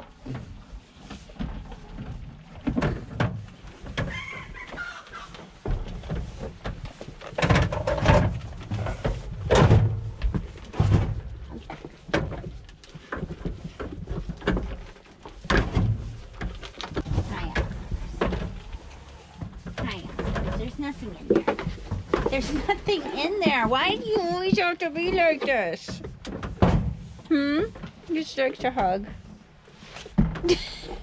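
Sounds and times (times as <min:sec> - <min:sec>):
goats bumping wooden boards: 0:01.3 - 0:26.9.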